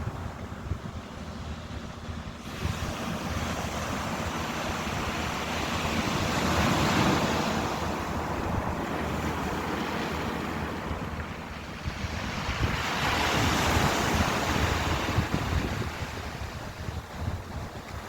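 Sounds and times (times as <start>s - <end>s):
ocean waves washing on shore: 0.0s - 18.0s.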